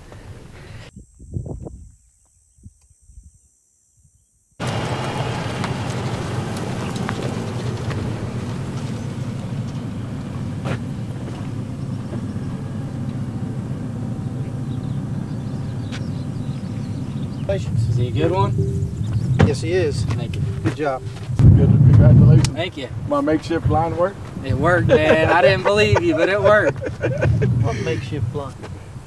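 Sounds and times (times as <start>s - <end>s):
pickup truck engine rumble: 4.6s - 29.0s.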